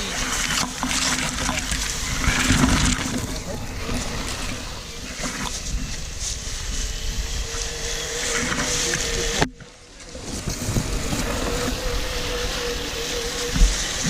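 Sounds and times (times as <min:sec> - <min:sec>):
grass brushing: 0:00.0 - 0:09.4, 0:10.1 - 0:14.0
electric motor whine: 0:00.0 - 0:14.0
wind on microphone: 0:00.0 - 0:14.0.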